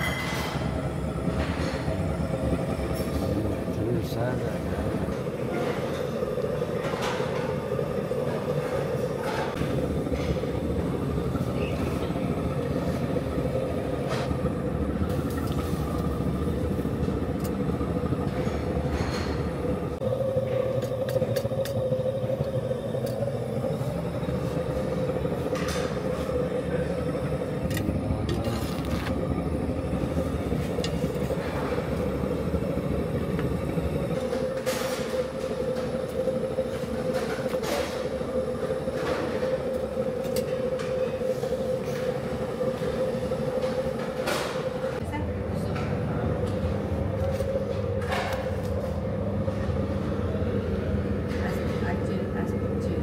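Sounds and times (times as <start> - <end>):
gas burner roaring: 0.0 - 53.0.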